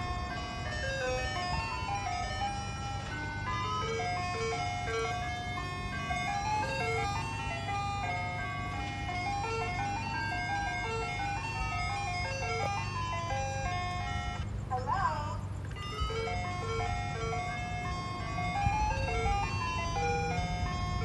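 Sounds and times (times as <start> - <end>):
ice cream truck jingle: 0.0 - 21.0
low engine hum: 0.0 - 21.0.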